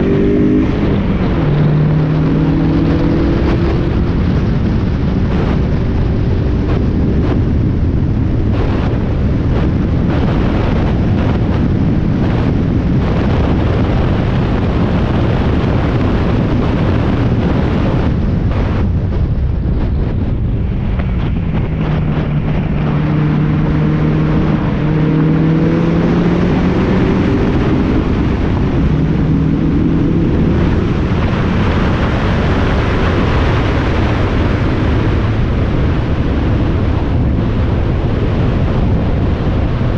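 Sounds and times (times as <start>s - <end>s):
race car engine running hard: 0.0s - 39.9s
wind noise on microphone: 0.0s - 39.9s.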